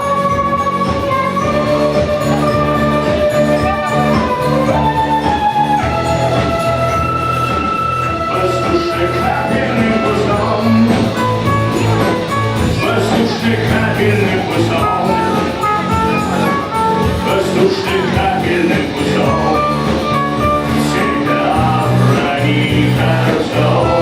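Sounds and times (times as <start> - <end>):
guitar melody: 0.0 - 24.0
live rock band playing: 0.0 - 24.0.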